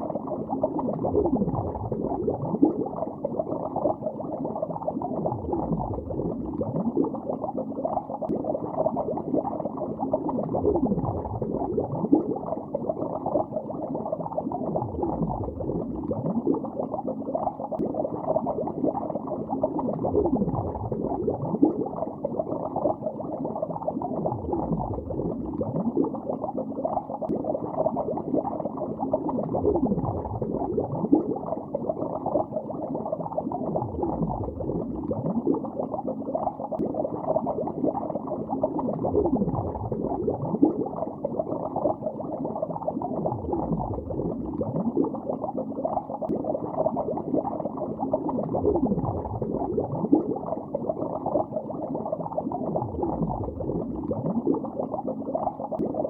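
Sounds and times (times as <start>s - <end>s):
water bubbling underwater: 0.0s - 56.0s.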